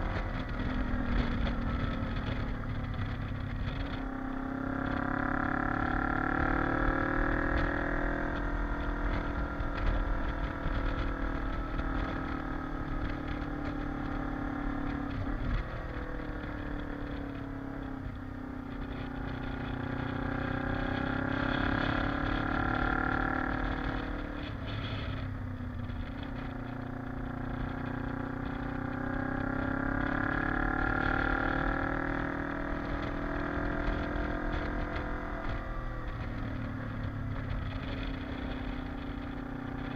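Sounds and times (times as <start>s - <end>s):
low wind rumble: 0.0s - 39.9s
motorcycle engine revving: 0.0s - 39.9s.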